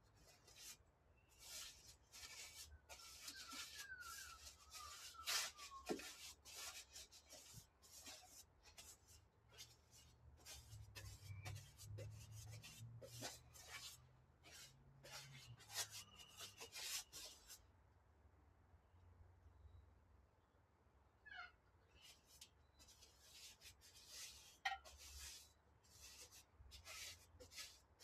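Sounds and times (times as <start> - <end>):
paintbrush scratching on sheet metal: 0.0 - 17.6, 21.9 - 28.0.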